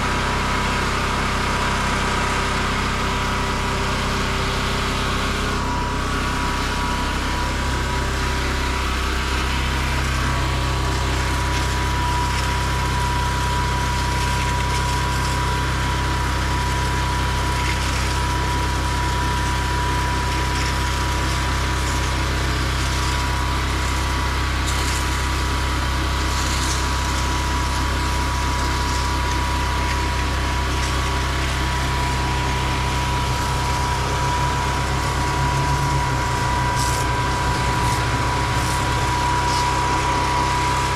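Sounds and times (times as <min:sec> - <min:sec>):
pressure washer engine running: 0:00.0 - 0:40.9
water spraying: 0:04.2 - 0:19.5, 0:20.2 - 0:40.9.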